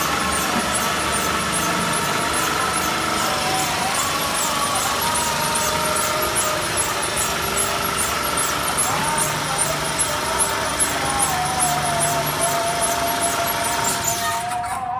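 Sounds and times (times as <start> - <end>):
cutting machine running: 0.0 - 14.9
high ticking: 0.0 - 14.9
wavering whining tones: 0.0 - 14.9.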